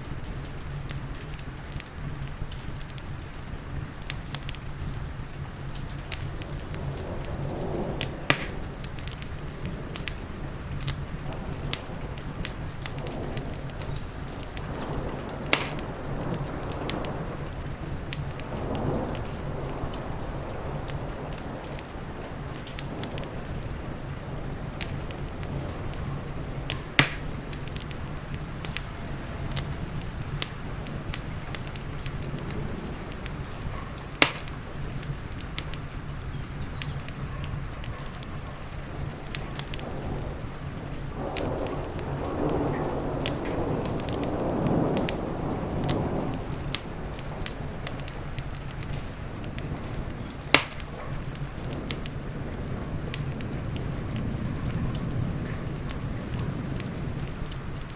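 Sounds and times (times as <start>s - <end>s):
rain hiss and rumble: 0.0s - 57.9s
wood fire crackling and popping: 0.0s - 57.9s.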